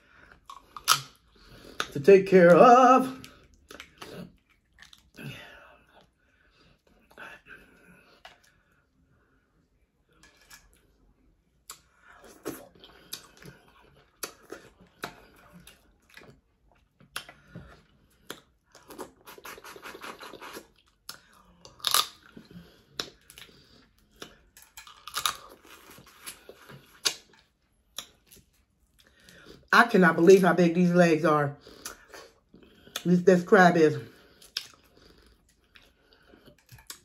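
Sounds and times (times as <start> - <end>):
wet chewing: 0.1 - 8.8, 10.1 - 29.7, 31.6 - 33.1, 34.1 - 37.0.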